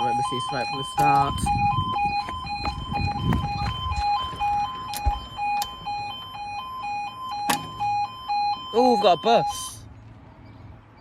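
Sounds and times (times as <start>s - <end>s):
two-tone crossing alarm: 0.0s - 9.8s.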